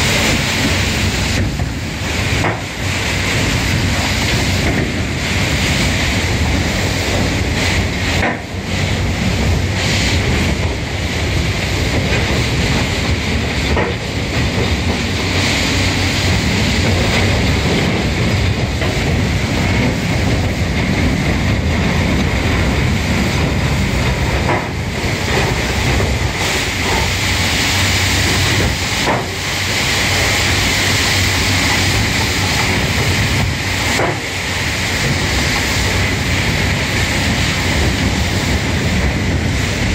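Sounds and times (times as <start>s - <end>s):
hydraulic cleaning machine noise: 0.0s - 39.9s.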